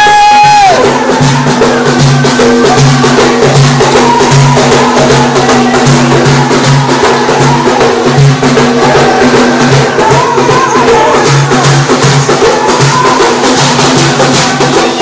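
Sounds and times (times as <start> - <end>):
frame drums beaten by hand: 0.0 - 15.0.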